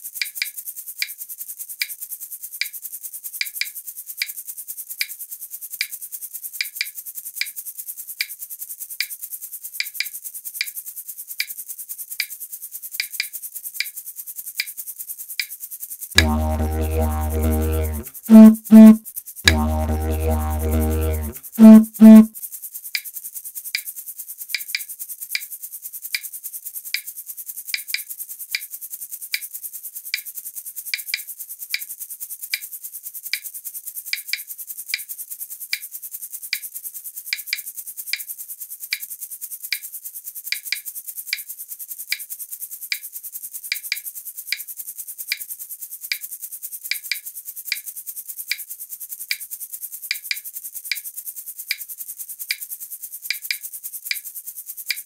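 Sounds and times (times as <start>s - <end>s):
shaker clicking: 0.0s - 55.0s.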